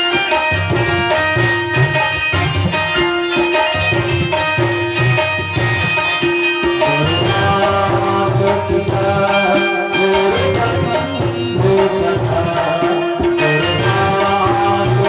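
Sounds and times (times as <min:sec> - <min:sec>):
hand drum beat: 0:00.0 - 0:15.0
held-note melody: 0:00.0 - 0:15.0.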